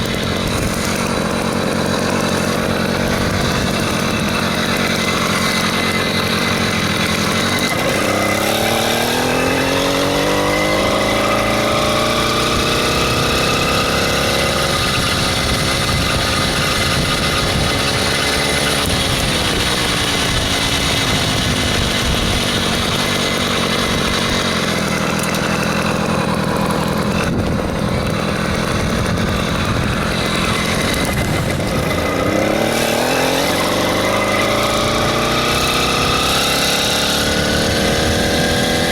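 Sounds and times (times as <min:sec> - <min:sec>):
two-stroke bicycle engine revving: 0:00.0 - 0:38.9.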